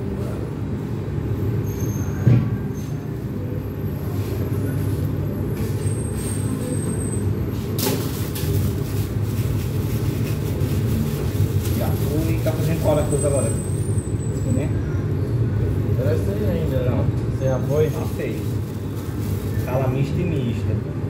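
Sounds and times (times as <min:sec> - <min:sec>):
kitchen machine drone: 0:00.0 - 0:21.0.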